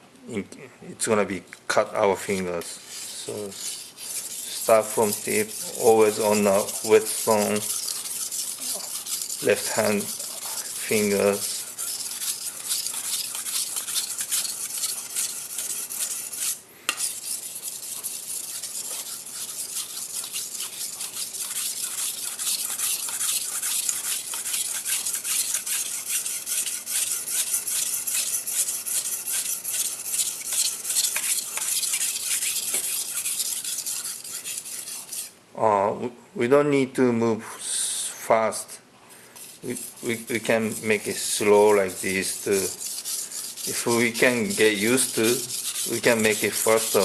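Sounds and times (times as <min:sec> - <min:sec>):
knife scraping on whetstone: 0:02.3 - 0:35.4, 0:39.4 - 0:47.0.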